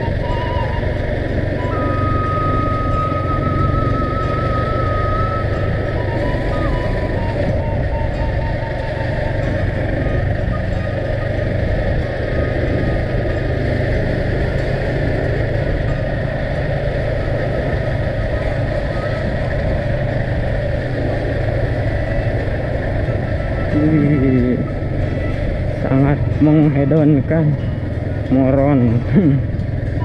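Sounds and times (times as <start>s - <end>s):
road and wind noise: 0.0s - 30.0s
vehicle engine running: 0.0s - 30.0s.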